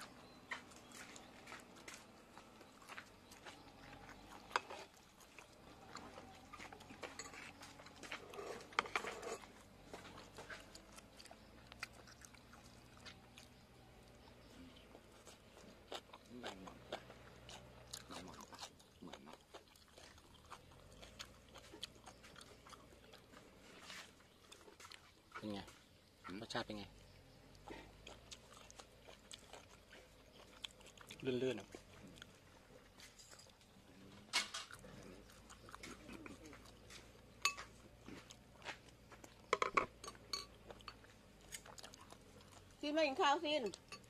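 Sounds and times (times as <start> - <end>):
chewing and crunching: 0.0 - 44.0.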